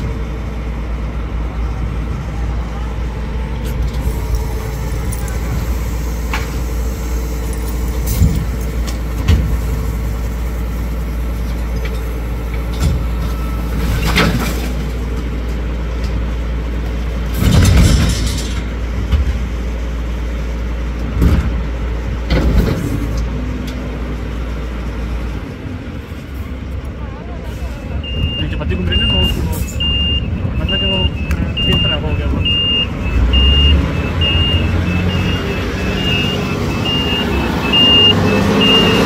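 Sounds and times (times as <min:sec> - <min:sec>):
garbage truck running: 0:00.0 - 0:39.0.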